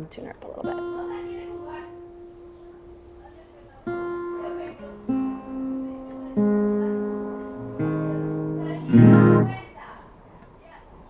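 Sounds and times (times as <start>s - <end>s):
guitar strings plucked: 0.6s - 9.7s.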